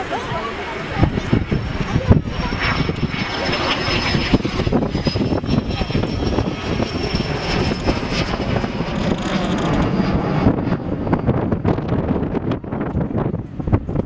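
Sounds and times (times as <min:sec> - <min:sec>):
aircraft engine whine: 0:00.0 - 0:14.0
wind rumbling on microphone: 0:00.0 - 0:14.0.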